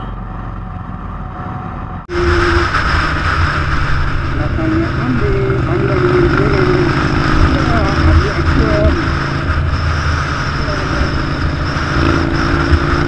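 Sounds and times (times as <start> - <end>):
motorcycle engines running: 2.0 - 13.0
wind noise: 2.1 - 13.0.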